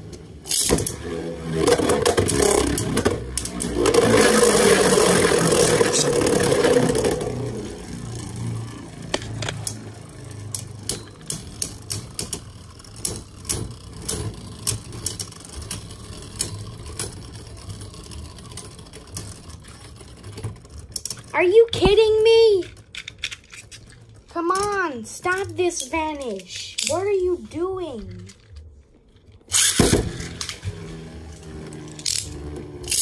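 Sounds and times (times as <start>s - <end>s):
spinning tops whirring and grinding: 0.0s - 33.0s.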